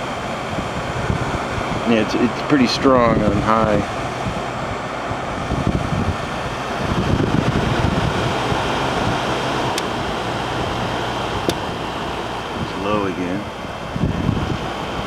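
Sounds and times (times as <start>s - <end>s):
air conditioner fan blowing: 0.0s - 15.0s.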